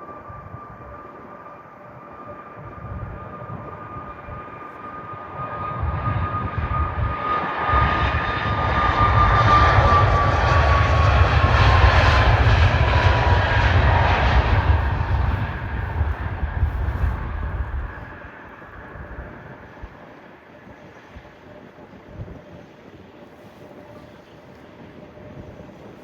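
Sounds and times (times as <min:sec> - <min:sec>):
high jet whine: 0:00.0 - 0:26.0
jet engines roaring: 0:00.0 - 0:26.0.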